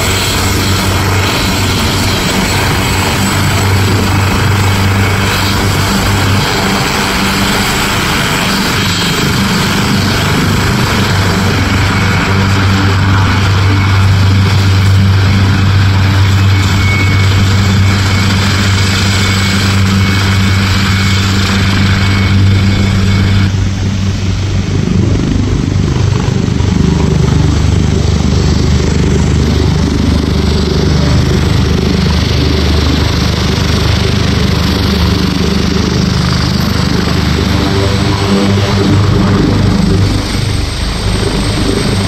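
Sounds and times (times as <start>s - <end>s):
helicopter rotor low hum: 0.0s - 42.0s
helicopter turbine whine: 0.0s - 42.0s.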